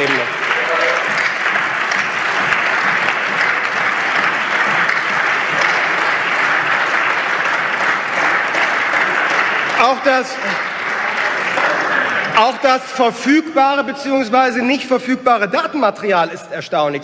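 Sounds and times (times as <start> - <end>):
crowd applauding: 0.0 - 16.3.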